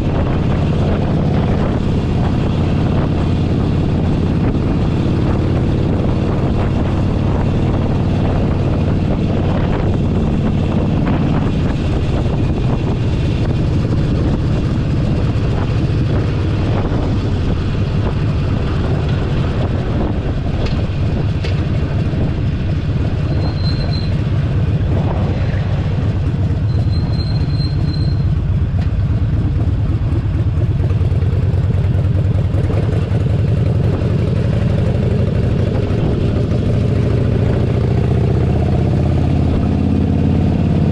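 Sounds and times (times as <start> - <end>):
motorcycle engine running: 0.0 - 40.9
wind rushing across microphone: 0.0 - 40.9.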